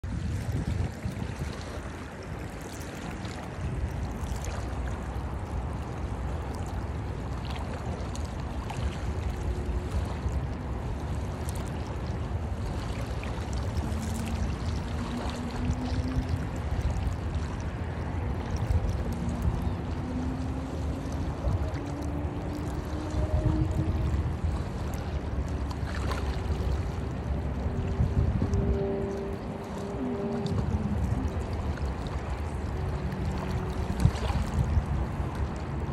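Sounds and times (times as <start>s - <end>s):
small waves lapping and splashing: 0.0s - 35.9s
wind rumble on microphone: 0.0s - 35.9s.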